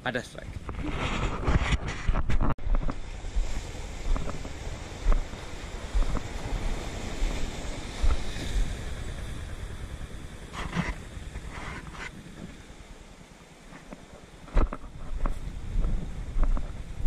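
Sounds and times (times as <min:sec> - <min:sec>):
wind buffeting microphone: 0:00.4 - 0:17.0.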